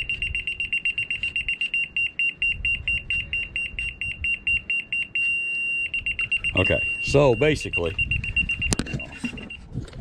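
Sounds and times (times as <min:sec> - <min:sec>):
rapid high-pitched beeping: 0:00.0 - 0:09.6.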